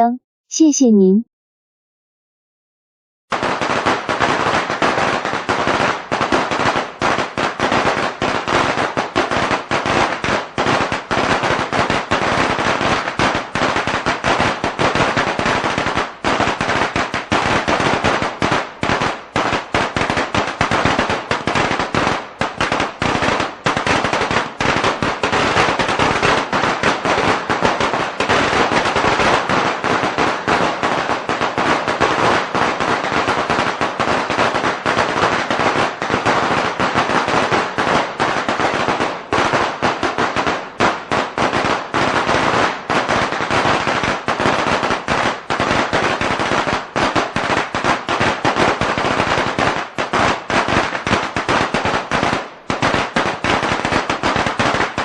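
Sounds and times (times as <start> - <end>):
firecrackers crackling: 3.3 - 55.0.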